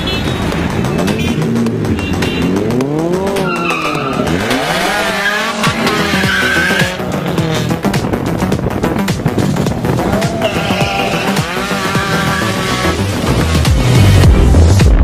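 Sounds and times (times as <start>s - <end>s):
car engines revving: 0.0s - 14.8s
background music: 0.0s - 15.0s.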